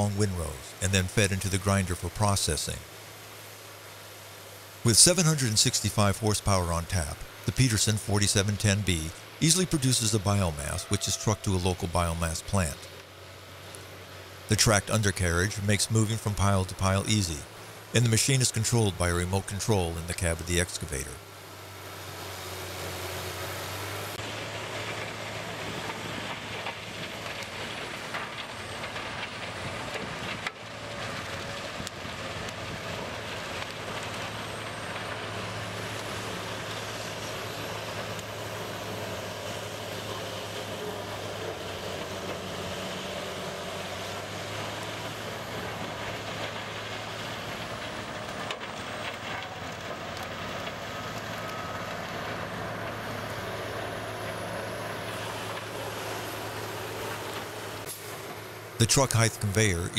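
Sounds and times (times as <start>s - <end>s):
excavator running: 0.0s - 3.3s, 4.7s - 59.9s
diesel grinder grinding wood: 0.0s - 59.9s.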